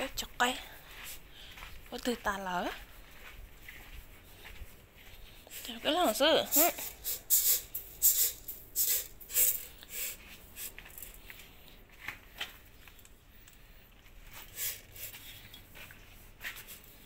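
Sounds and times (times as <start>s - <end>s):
footsteps on gritty concrete: 0.0s - 7.0s, 10.2s - 17.0s
faint scrapes and rustles: 2.7s - 17.0s.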